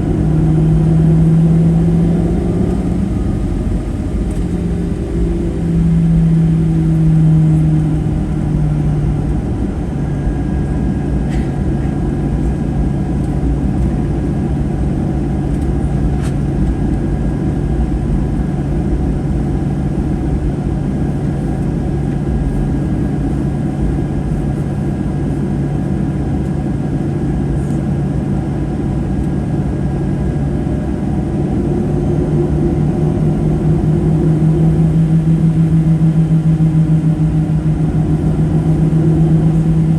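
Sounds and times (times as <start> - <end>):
low hum: 0.0 - 26.5, 28.7 - 39.9
jet engine cabin rumble: 0.0 - 39.9.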